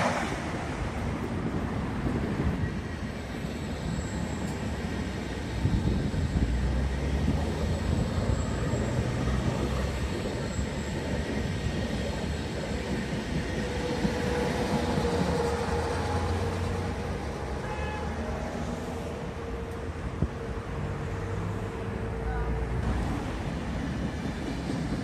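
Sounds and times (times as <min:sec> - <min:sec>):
locomotive hum: 0:00.0 - 0:25.0
train wheels rumbling on rails: 0:00.0 - 0:25.0.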